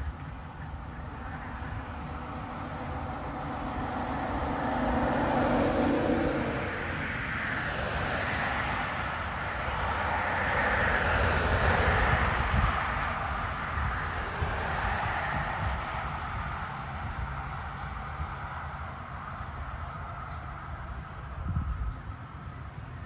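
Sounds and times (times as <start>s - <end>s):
cars passing on paved road: 0.0s - 23.0s.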